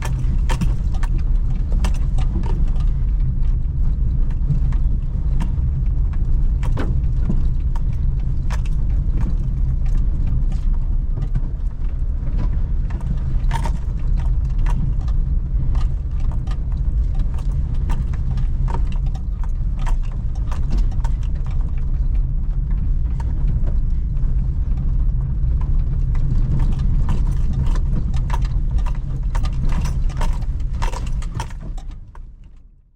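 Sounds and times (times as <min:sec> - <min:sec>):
small clicks and rattles: 0:00.0 - 0:32.8
car engine and road rumble: 0:00.0 - 0:32.9.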